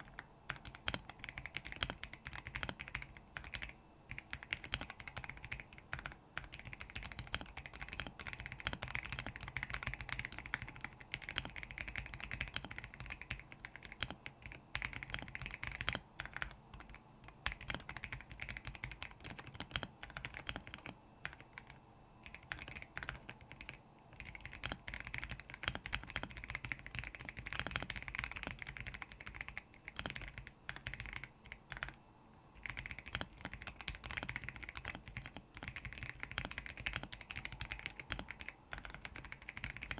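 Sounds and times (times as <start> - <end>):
fast typing on mechanical keyboard: 0.0 - 32.0, 32.6 - 39.9.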